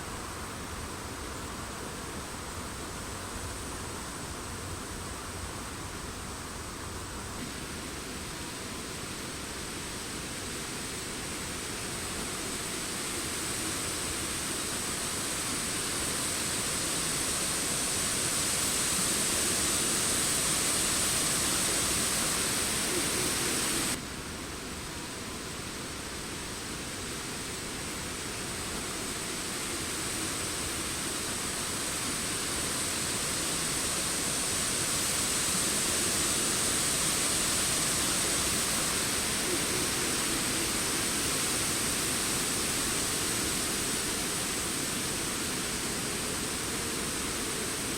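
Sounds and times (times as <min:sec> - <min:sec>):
wind rushing through trees: 0:00.0 - 0:47.9.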